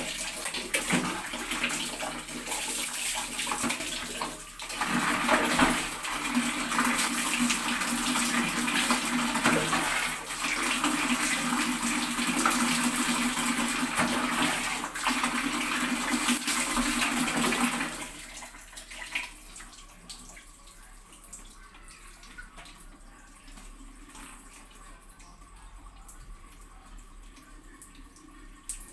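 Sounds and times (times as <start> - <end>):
water pouring and splashing: 0.0 - 28.9.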